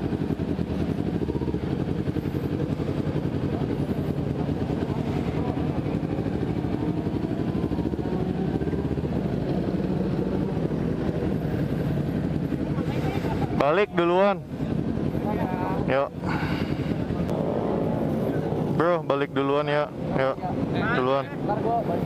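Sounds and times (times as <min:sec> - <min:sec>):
motorcycle engine idling: 0:00.0 - 0:19.3.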